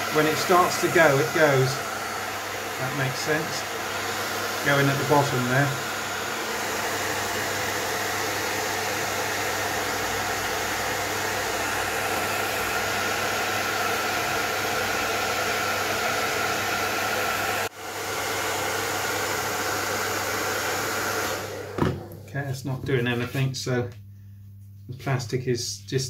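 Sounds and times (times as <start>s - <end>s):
heat gun blowing hot air: 0.0s - 22.2s.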